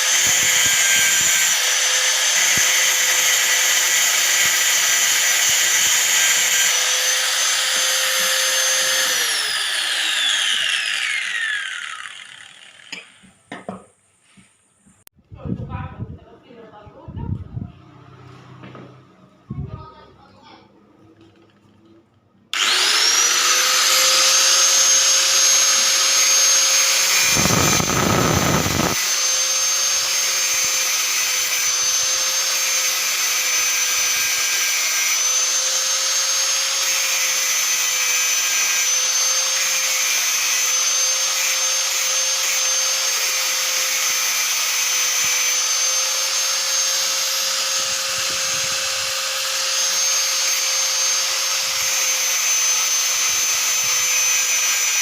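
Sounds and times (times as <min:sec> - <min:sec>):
angle grinder whining: 0:00.0 - 0:13.8, 0:22.5 - 0:55.0.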